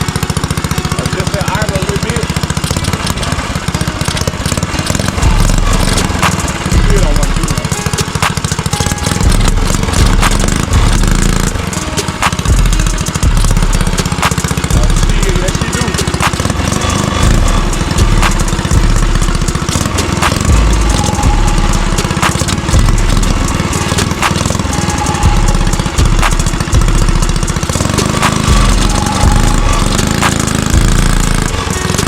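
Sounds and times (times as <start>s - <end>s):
mini bike engine idling unevenly: 0.0s - 32.0s
sharp ticking: 0.0s - 32.0s.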